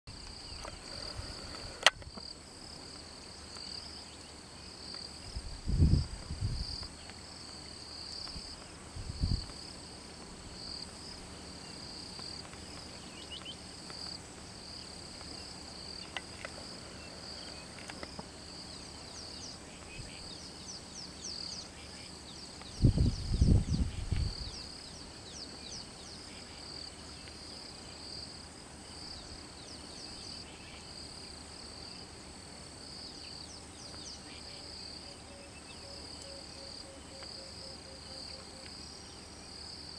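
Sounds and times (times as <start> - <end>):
high-pitched insect chorus: 0.1 - 39.9.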